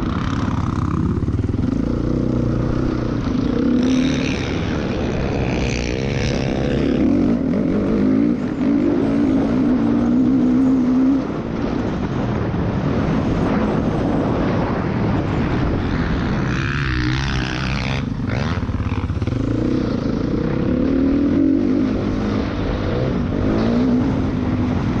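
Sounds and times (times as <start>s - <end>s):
dirt bike engine revving: 0.0s - 11.8s, 15.5s - 25.0s.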